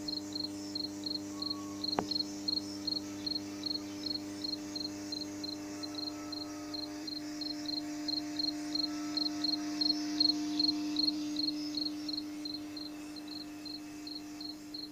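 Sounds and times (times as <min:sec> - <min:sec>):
cricket chirping: 0:00.0 - 0:14.9
low electrical hum: 0:00.0 - 0:14.9.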